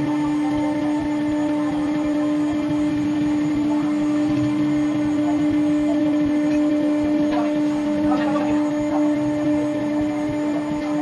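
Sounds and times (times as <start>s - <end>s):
router spindle high whine: 0.0s - 11.0s.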